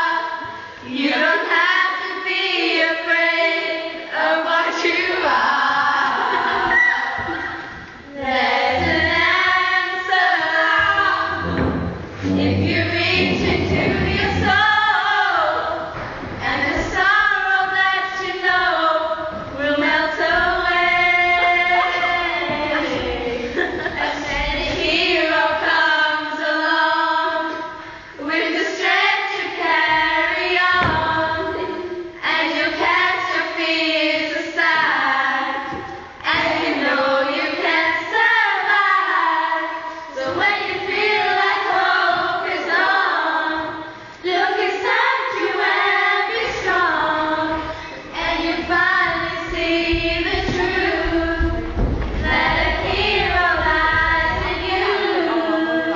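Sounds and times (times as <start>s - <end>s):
girls singing together: 0.0s - 55.9s.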